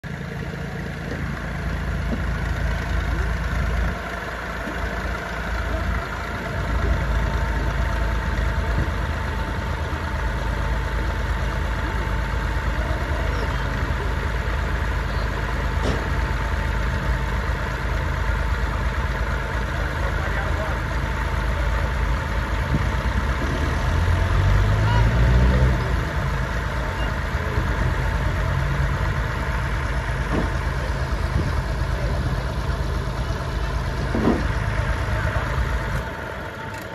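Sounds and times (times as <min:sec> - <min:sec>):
small tractor engine running: 0:00.0 - 0:36.9.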